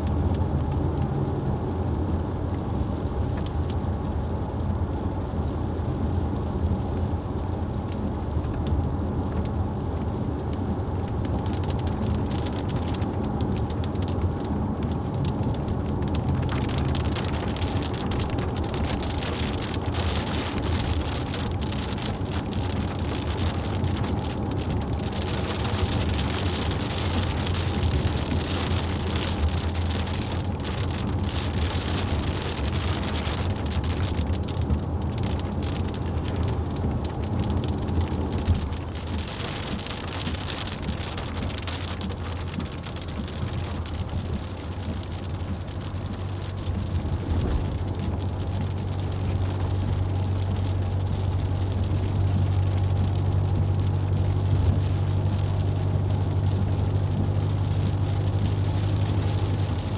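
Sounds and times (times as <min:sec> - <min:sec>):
low engine and road drone: 0:00.0 - 0:59.9
rain and wet-road noise: 0:00.0 - 0:59.9.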